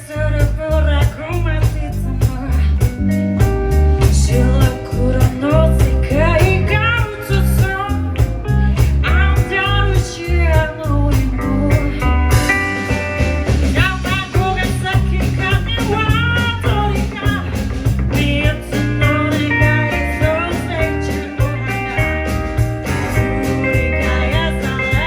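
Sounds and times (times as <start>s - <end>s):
electric guitar: 0.0s - 25.0s
heavy bass line: 0.0s - 25.0s
live blues-rock band: 0.0s - 25.0s
steady drum beat: 0.0s - 25.0s.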